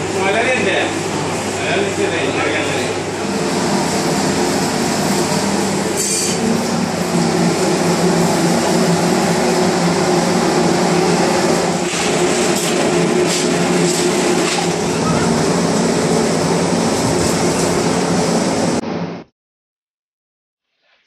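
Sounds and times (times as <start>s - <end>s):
kitchen machinery drone: 0.0s - 19.3s.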